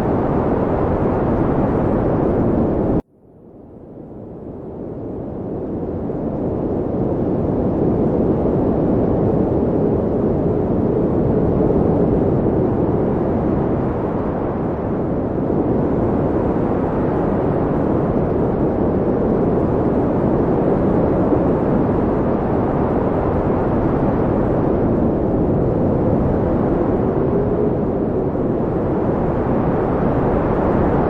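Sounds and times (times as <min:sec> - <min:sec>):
wind blowing: 0:00.0 - 0:03.0, 0:04.6 - 0:31.0.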